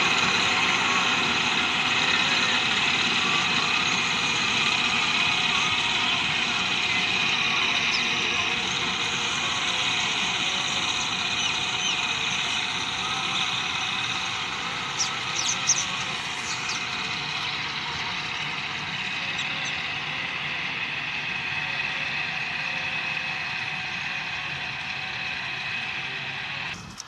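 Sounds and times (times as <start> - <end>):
high whine: 0.0 - 27.0
windrower engine running: 0.0 - 27.0.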